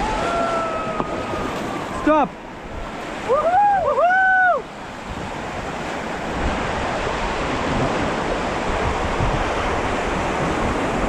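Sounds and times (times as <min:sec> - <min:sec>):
river rapids rushing: 0:00.0 - 0:11.0
wind buffeting microphone: 0:00.0 - 0:11.0.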